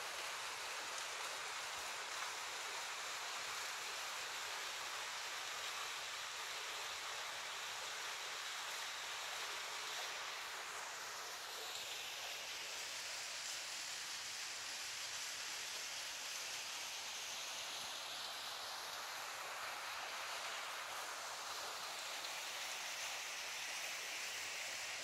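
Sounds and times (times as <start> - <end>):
small waterfall splashing: 0.0 - 25.0.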